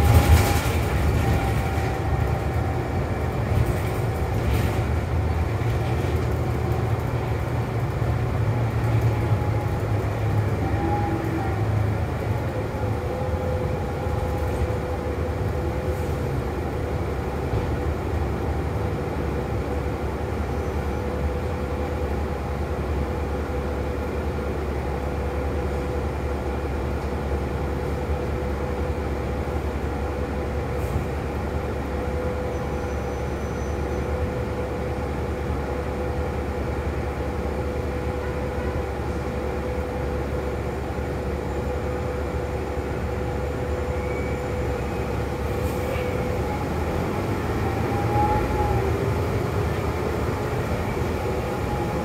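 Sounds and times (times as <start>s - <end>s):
bus engine rumble: 0.0s - 52.0s.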